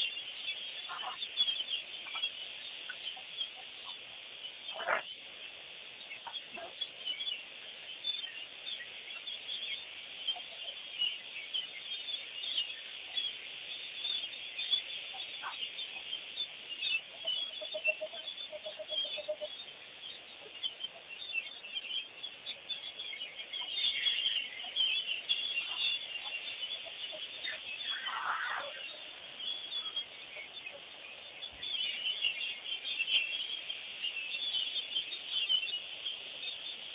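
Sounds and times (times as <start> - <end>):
lower repeated bird notes: 0.0 - 36.9
wild birds chirping and calling: 0.0 - 36.9.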